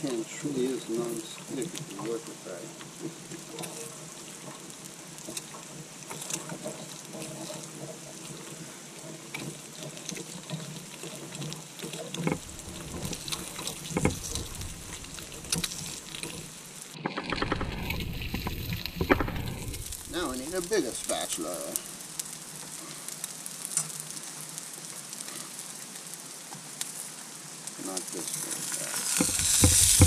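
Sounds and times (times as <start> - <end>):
hash browns sizzling in skillet: 0.0 - 30.0.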